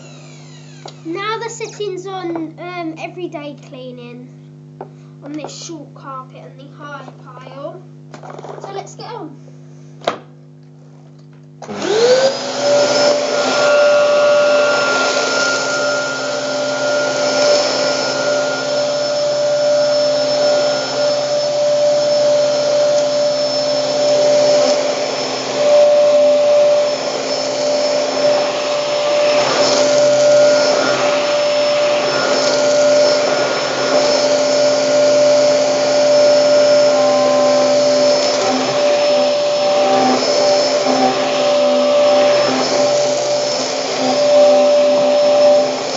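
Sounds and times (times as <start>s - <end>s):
vacuum cleaner motor whine: 0.0s - 2.6s, 7.2s - 45.9s.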